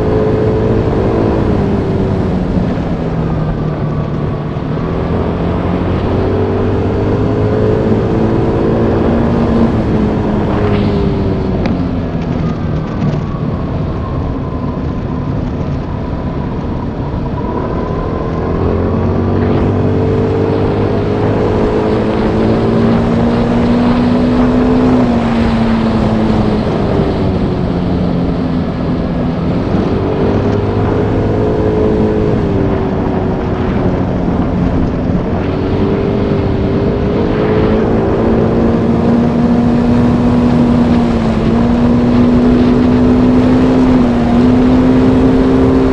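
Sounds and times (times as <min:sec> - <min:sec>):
motorbike engine revving: 0:00.0 - 0:13.4, 0:17.3 - 0:45.9.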